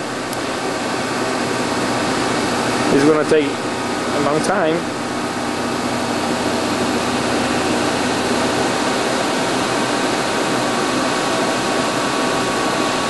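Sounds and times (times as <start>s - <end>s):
milling machine hiss: 0.0s - 13.0s.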